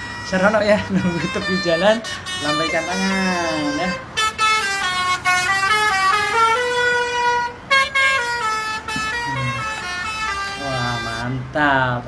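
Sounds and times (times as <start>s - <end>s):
musical air horn tune: 0.0s - 11.3s.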